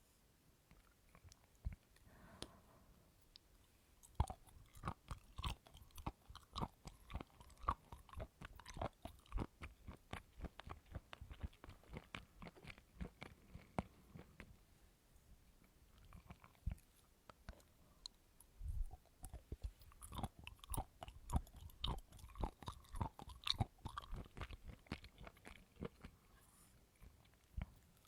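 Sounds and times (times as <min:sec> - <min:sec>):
person chewing coconut: 0:00.7 - 0:02.0, 0:03.3 - 0:14.6, 0:15.6 - 0:28.0.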